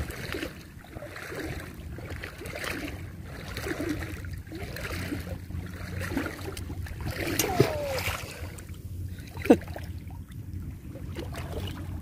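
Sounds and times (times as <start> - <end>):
seawater sloshing around legs: 0.0 - 12.0.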